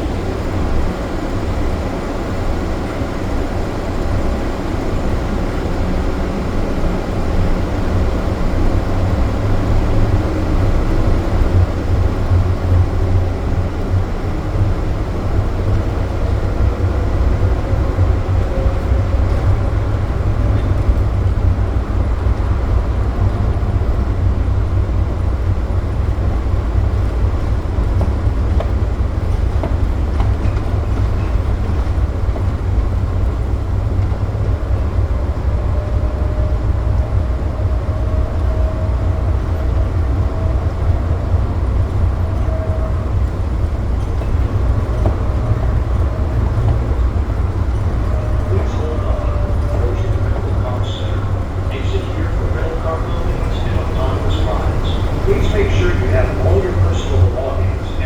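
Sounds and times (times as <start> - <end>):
people-mover train rumble: 0.0 - 58.0.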